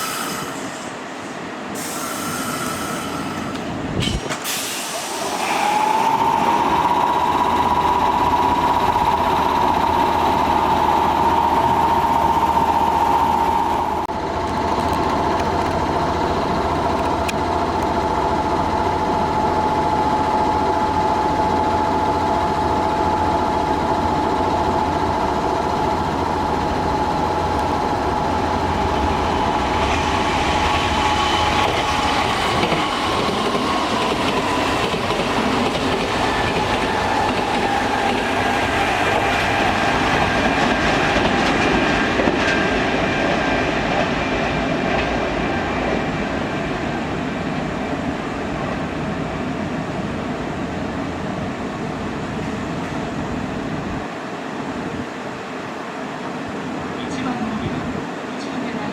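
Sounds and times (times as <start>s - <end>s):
electric train mechanical whine: 0.0s - 58.9s.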